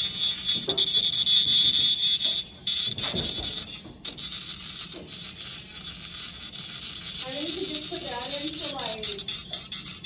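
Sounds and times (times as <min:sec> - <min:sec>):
dental handpiece whining: 0:00.0 - 0:10.0.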